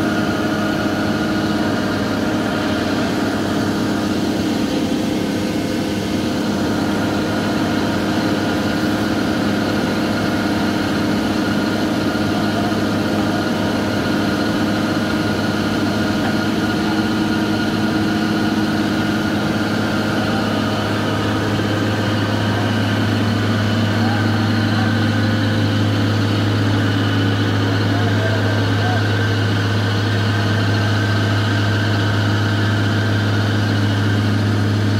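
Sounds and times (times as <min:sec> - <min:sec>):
excavator diesel engine drone: 0:00.0 - 0:34.9.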